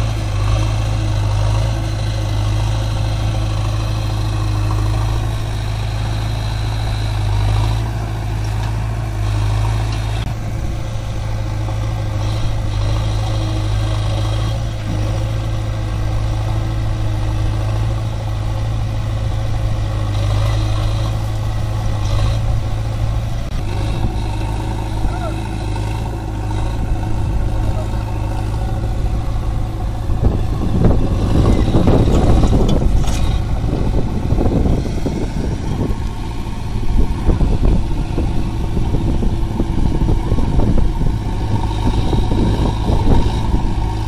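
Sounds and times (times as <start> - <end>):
backhoe loader diesel engine: 0.0 - 44.0
tractor diesel engine running: 0.0 - 44.0.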